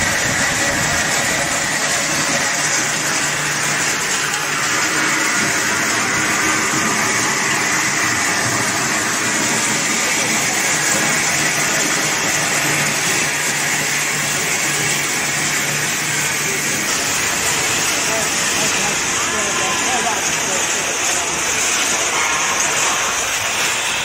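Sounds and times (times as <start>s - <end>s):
shelling machine mechanical noise: 0.0s - 24.0s.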